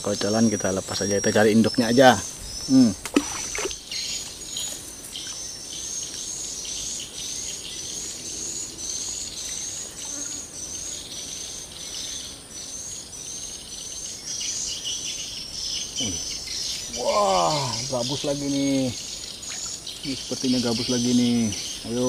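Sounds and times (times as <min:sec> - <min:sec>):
high rising bird chirp: 0:00.0 - 0:22.0
high-pitched insect hum: 0:00.0 - 0:22.0.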